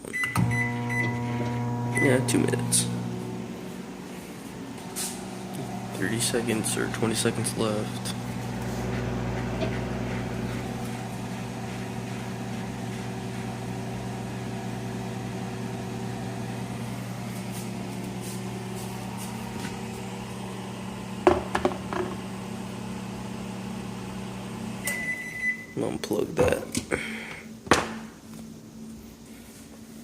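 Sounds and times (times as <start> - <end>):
microwave oven humming: 0.0 - 25.9.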